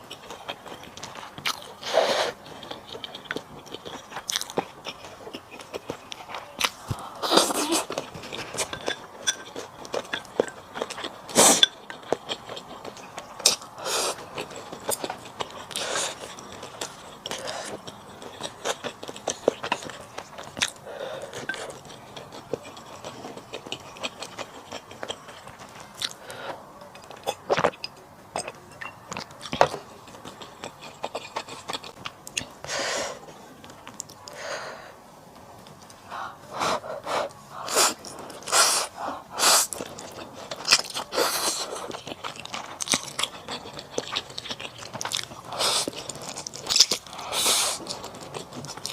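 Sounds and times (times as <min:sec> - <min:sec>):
person chewing: 0:00.0 - 0:33.2, 0:35.7 - 0:48.9.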